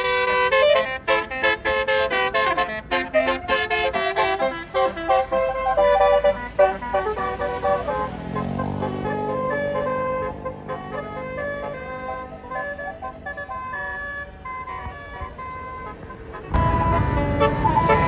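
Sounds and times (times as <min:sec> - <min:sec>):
musical air horn playing a tune: 0:00.0 - 0:18.0.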